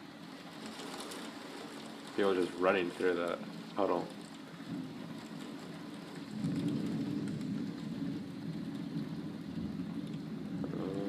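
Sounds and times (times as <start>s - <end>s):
heavy rain: 0.0s - 11.0s
low thunder rumble: 1.5s - 11.0s.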